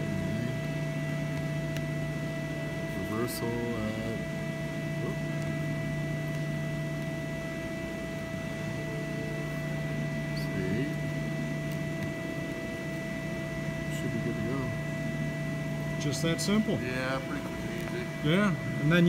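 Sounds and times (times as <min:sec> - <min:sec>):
hydraulic system humming: 0:00.0 - 0:19.0.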